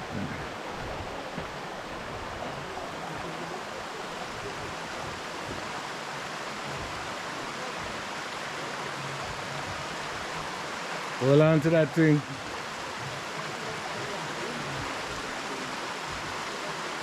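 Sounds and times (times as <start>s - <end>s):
river and waterfall rushing: 0.0s - 17.0s.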